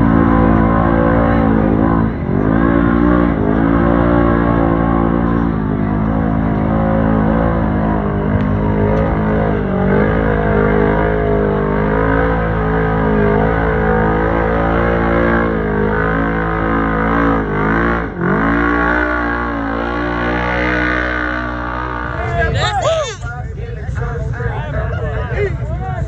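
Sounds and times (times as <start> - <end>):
vehicle engine running hard: 0.0 - 26.0.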